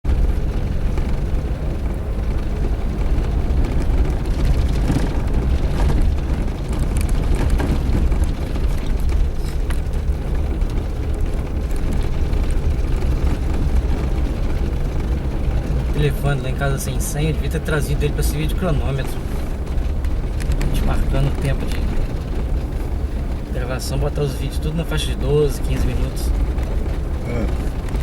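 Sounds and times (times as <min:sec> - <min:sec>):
car engine and road rumble: 0:00.0 - 0:28.0
knocks and rattles: 0:00.0 - 0:28.0.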